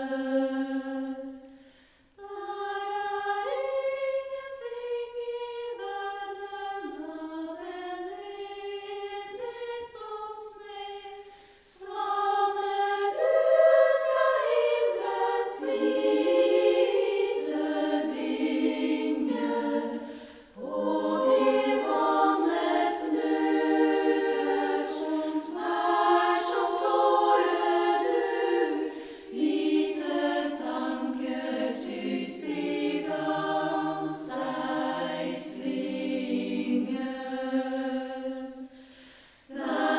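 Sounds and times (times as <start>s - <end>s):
women's choir singing: 0.0s - 1.6s, 2.2s - 39.9s.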